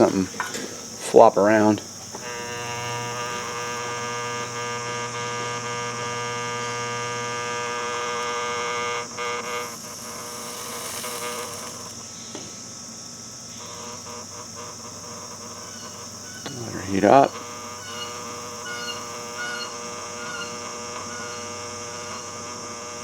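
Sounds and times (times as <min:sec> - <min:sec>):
soldering gun buzzing: 0:00.0 - 0:23.0.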